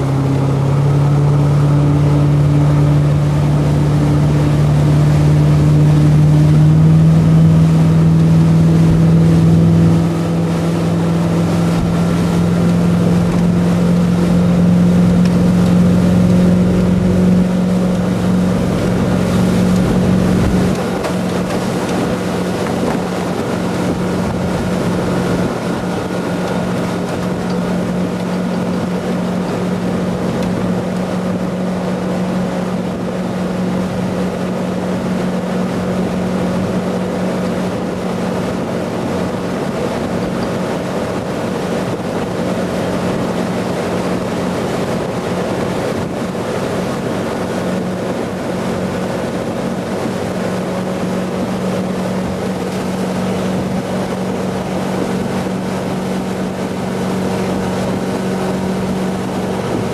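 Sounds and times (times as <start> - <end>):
boat engine droning: 0.0 - 59.9
rushing wake water: 0.0 - 59.9
wind on microphone: 0.0 - 59.9.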